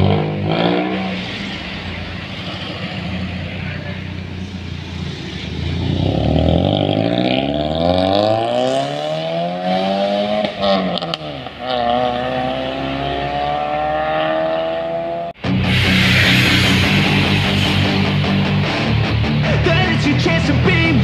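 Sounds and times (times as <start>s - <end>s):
car engine accelerating hard: 0.0s - 19.6s.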